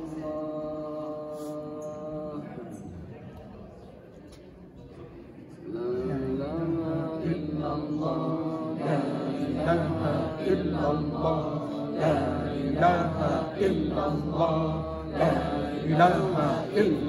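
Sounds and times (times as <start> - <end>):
group chanting prayers: 0.0 - 17.0.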